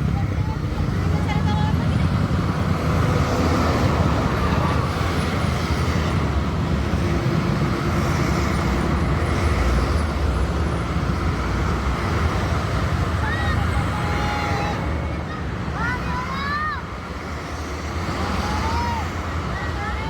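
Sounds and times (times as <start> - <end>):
highway traffic: 0.0 - 20.0.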